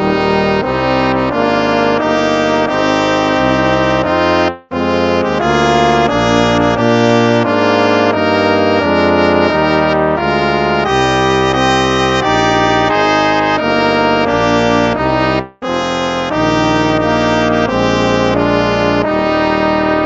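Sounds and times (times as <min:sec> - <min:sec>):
instrumental hymn music: 0:00.0 - 0:20.0.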